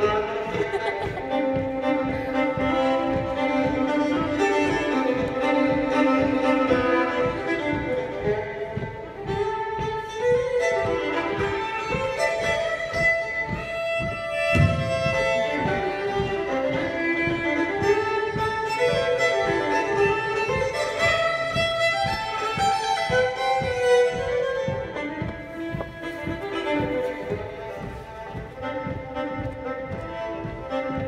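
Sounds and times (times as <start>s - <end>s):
low taps: 0.0s - 31.0s
solo fiddle dance tune: 0.0s - 31.0s.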